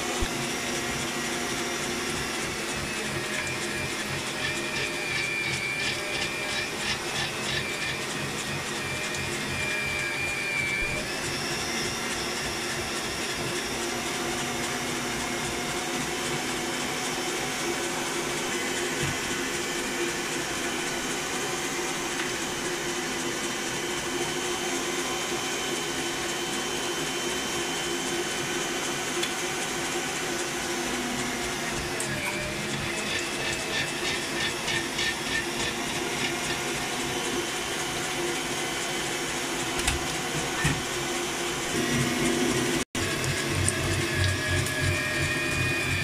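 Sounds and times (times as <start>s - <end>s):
meat being ground in mincer: 0.0s - 46.0s
mixer motor whine: 0.0s - 46.0s.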